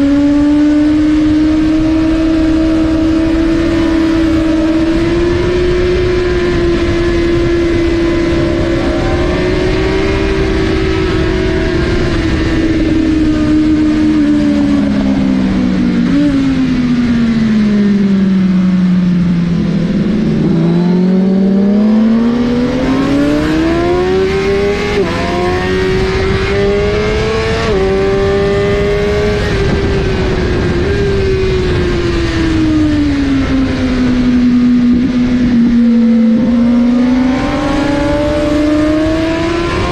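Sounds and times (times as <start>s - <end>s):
constant rush of noise: 0.0s - 39.9s
motorcycle engine at high revs: 0.0s - 39.9s.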